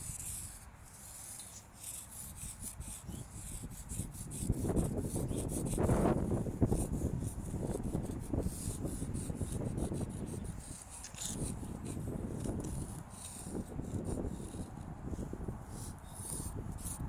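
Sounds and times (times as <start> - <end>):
chalk scraping over surface: 0.0 - 17.0
wind buffeting microphone: 2.2 - 17.0.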